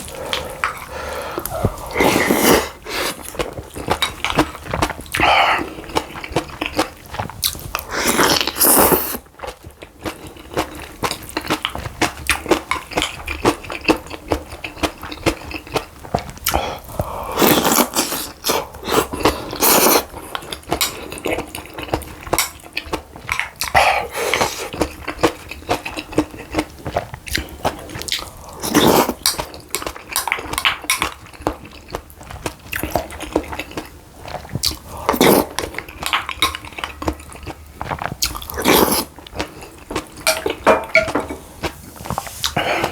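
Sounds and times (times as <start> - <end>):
chewing and biting food: 0.0 - 42.9.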